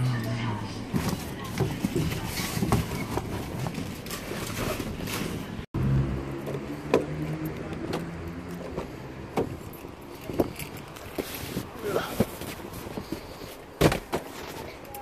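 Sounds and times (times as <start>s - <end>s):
vehicle engine humming: 0.0s - 13.8s.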